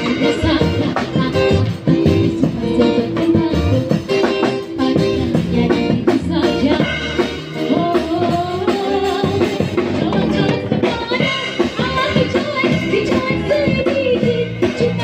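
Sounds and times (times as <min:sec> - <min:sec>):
drum kit: 0:00.0 - 0:15.0
woman singing into microphone: 0:00.0 - 0:15.0.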